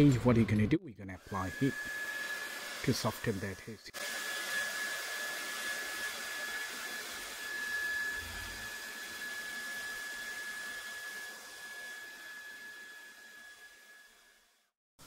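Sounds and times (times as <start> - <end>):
hair dryer blowing: 1.2 - 14.6.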